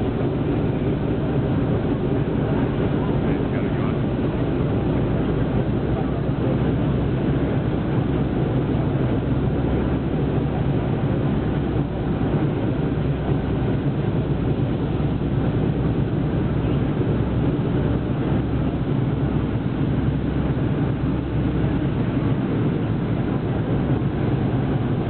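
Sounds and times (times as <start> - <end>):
radial aircraft engines rumbling: 0.0 - 25.0.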